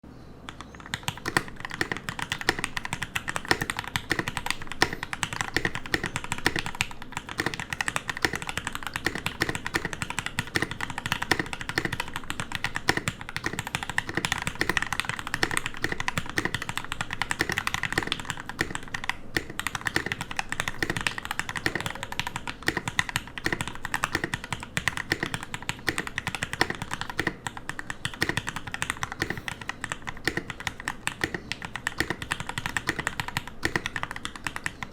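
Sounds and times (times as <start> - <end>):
fast mechanical keyboard typing: 0.5 - 34.9.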